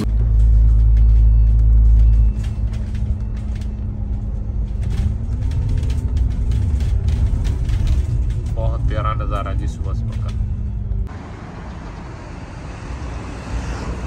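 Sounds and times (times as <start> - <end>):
bus engine rumbling: 0.0 - 14.0
bus whine rising in pitch: 0.0 - 14.0.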